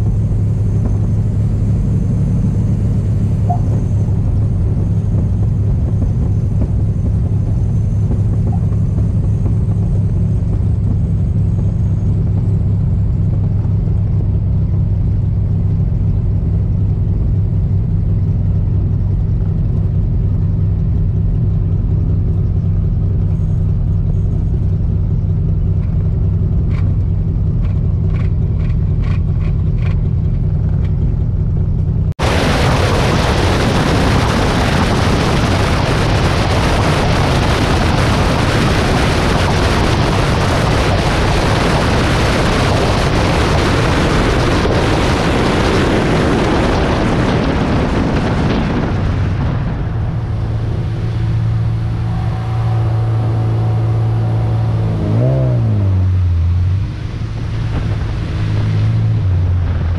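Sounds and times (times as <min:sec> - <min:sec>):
propeller plane engine hum: 0:00.0 - 0:59.9
van engine at speed: 0:00.0 - 0:59.9
wind and road noise: 0:00.0 - 0:59.9.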